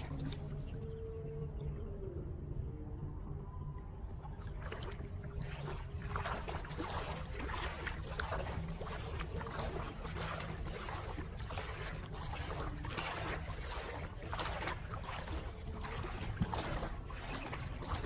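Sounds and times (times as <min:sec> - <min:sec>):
floodwater sloshing and splashing: 0:00.0 - 0:01.8, 0:03.3 - 0:18.0
low rumble: 0:00.0 - 0:18.0.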